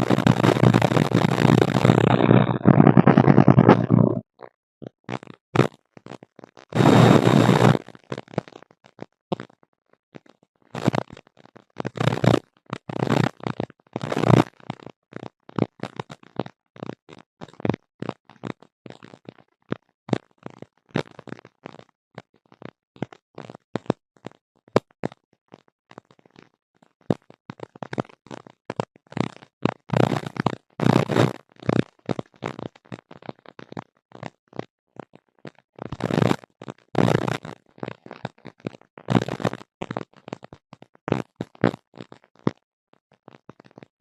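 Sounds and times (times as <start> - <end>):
crackling and popping noise: 0.0 - 44.0.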